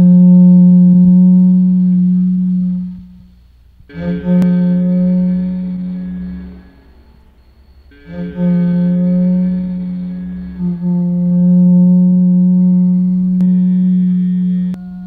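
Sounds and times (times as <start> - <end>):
wind instrument low drone: 0.0 - 15.0.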